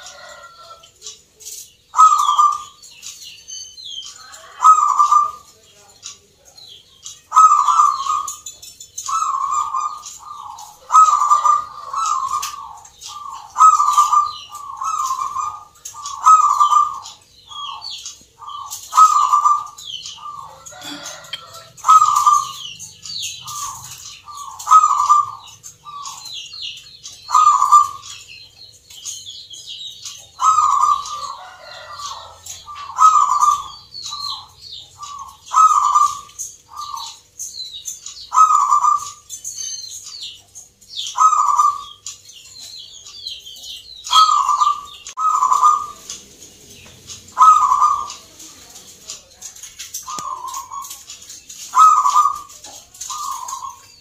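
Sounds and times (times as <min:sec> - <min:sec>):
dove cooing: 0:00.0 - 0:00.8, 0:01.5 - 0:02.8, 0:04.2 - 0:05.5, 0:07.3 - 0:28.4, 0:29.8 - 0:37.3, 0:38.3 - 0:39.8, 0:41.0 - 0:42.0, 0:44.1 - 0:54.0
high-pitched bird chirps: 0:01.4 - 0:05.5, 0:06.6 - 0:46.2, 0:46.8 - 0:54.0.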